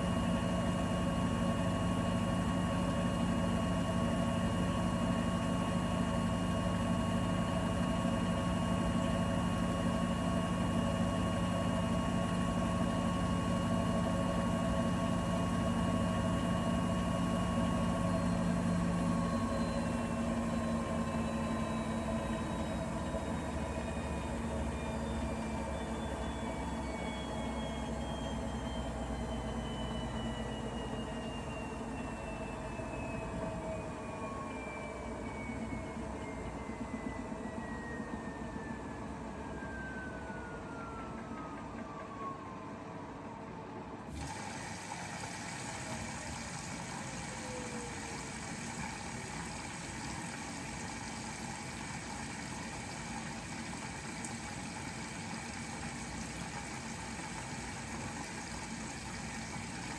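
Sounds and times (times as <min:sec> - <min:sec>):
washing machine motor whine: 0:00.0 - 0:59.9.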